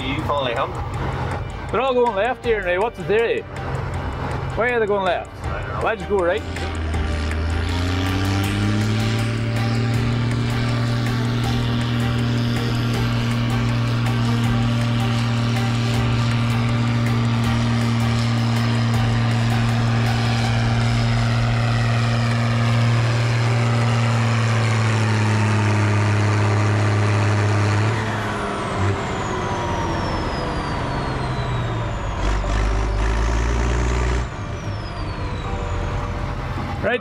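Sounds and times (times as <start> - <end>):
tractor diesel engine running hard: 0.0 - 37.0
high whine winding down: 4.0 - 37.0.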